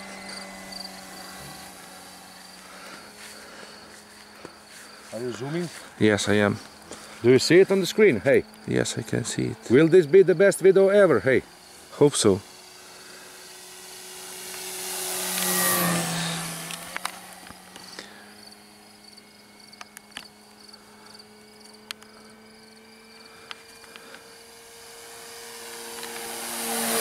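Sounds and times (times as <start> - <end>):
crickets chirping: 0.0 - 26.6
model plane propeller drone: 0.0 - 27.0.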